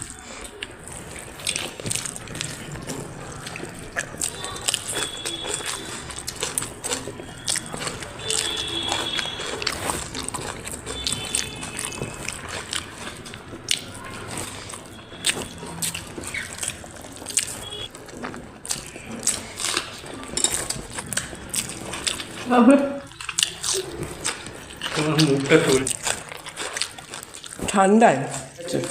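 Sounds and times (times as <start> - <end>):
chewing with wet mouth clicks: 0.0 - 28.9.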